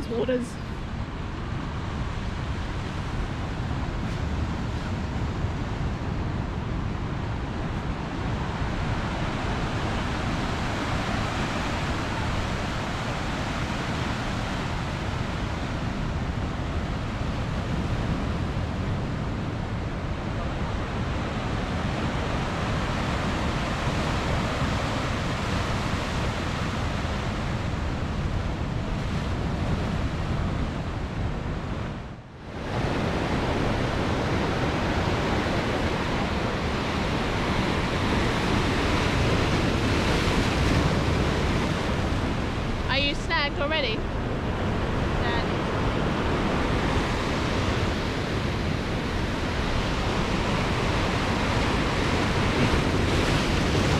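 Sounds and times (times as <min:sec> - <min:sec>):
rushing sea water: 0:00.0 - 0:53.9
wind buffeting microphone: 0:00.0 - 0:53.9.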